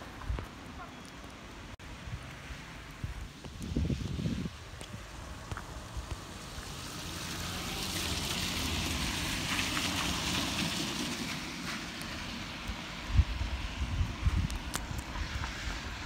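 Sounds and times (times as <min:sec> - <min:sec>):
tyre hiss on wet road: 0:01.6 - 0:16.0.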